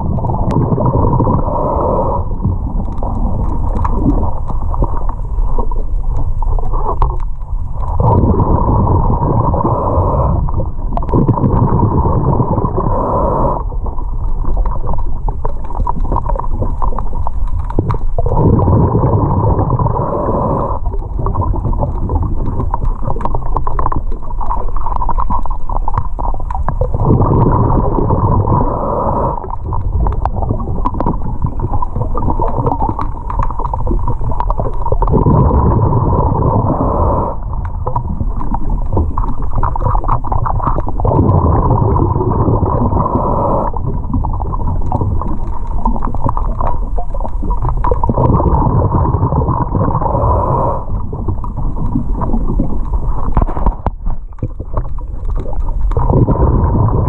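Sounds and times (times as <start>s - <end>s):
underwater breathing bubbles: 0.0s - 57.0s.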